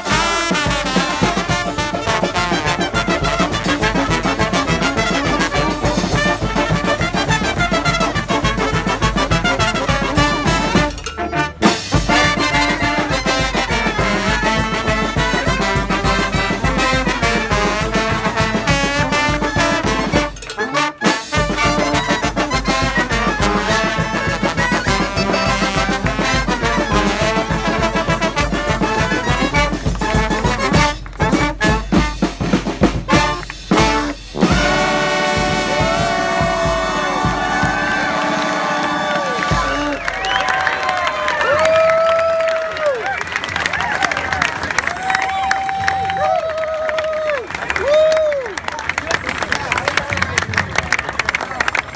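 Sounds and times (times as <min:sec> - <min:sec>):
brass band playing: 0:00.0 - 0:45.2.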